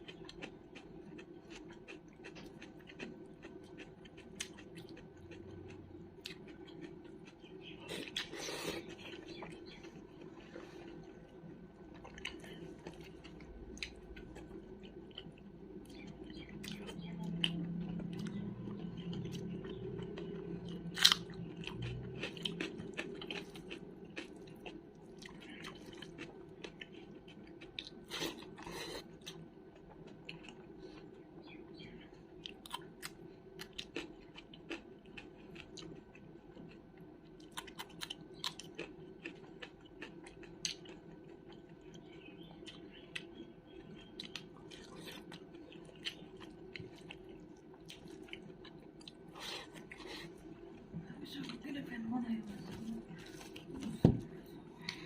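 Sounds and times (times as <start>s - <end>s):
close chewing mouth sounds: 0.0s - 51.6s
food crunching: 0.0s - 51.7s
low steady hum: 0.0s - 55.0s.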